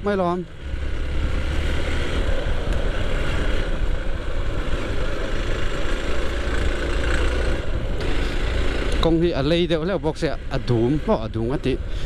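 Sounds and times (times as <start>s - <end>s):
motorcycle engine hum: 0.0s - 12.0s
wind noise: 0.0s - 12.0s.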